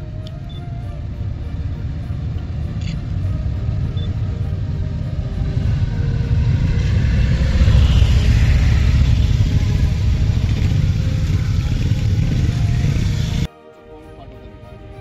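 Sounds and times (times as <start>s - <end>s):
motorcycles riding past: 0.1s - 13.5s.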